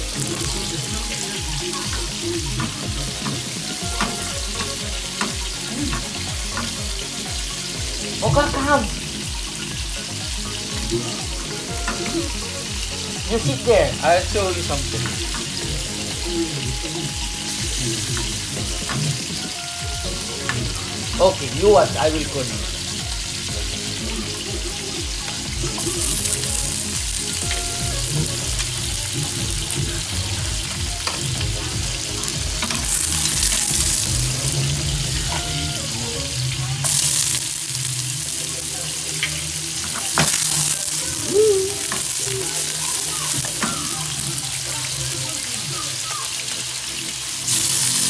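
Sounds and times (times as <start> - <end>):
garlic and onions sizzling in oil: 0.0 - 48.0.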